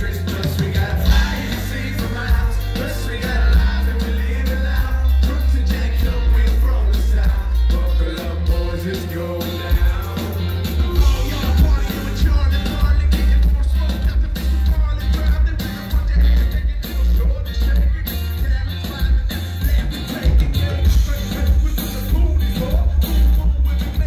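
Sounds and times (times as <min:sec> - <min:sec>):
heavy bass and drum beat: 0:00.0 - 0:24.0
man singing live music: 0:00.0 - 0:24.0.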